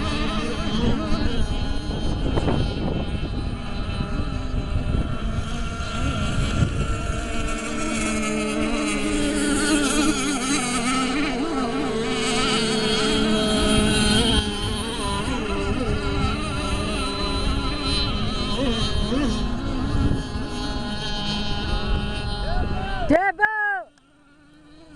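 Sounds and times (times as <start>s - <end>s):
high engine whine: 0.0s - 24.9s.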